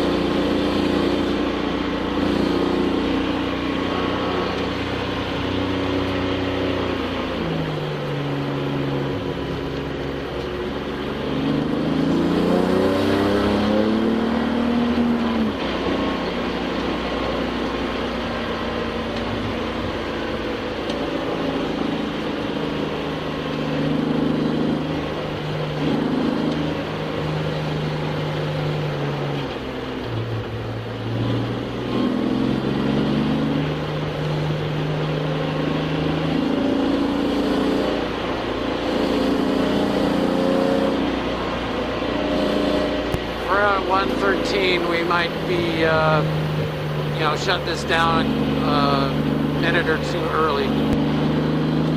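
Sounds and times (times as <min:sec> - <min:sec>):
race car engine accelerating: 0:00.0 - 0:51.9.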